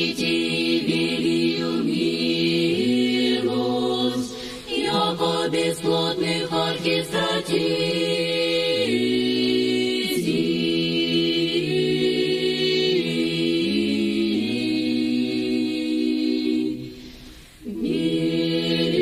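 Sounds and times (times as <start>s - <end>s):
unaccompanied choir chanting: 0.0s - 19.0s.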